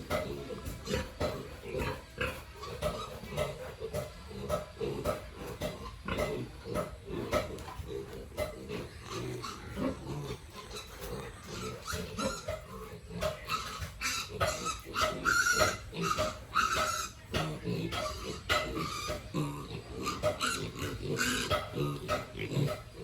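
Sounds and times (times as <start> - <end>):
pigs grunting: 0.0 - 23.0
pigs squealing: 0.0 - 23.0.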